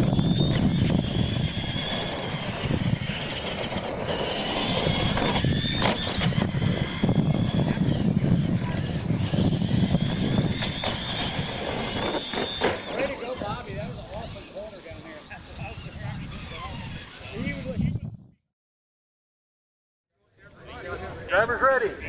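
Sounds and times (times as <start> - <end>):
electric motors whining: 0.0 - 17.7.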